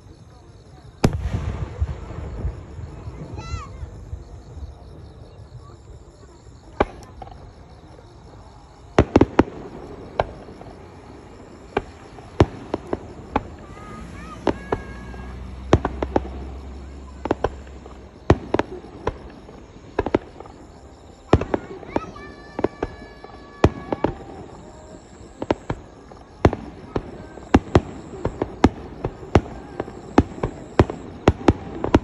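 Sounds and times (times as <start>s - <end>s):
fireworks bursting with bangs: 0.0s - 32.0s.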